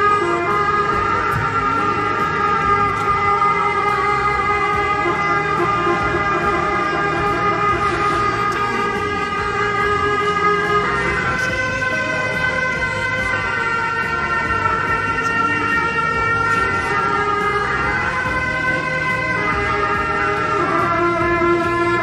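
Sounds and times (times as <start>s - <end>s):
music of long held notes: 0.0s - 22.0s.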